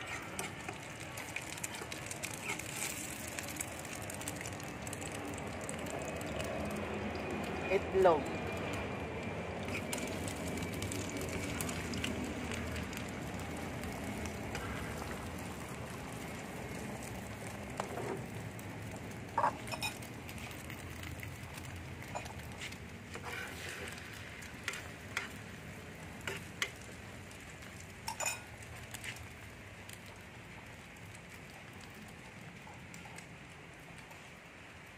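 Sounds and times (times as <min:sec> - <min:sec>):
egg and onion sizzling in pan: 0:00.0 - 0:34.9.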